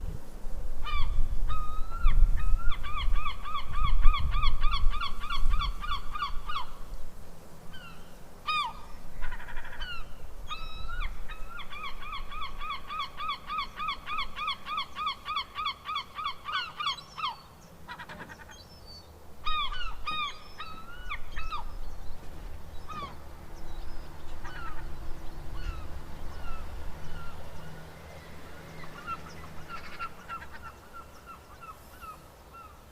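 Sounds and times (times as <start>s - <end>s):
seagull calling: 0.8s - 6.8s, 7.7s - 21.9s, 22.8s - 32.8s.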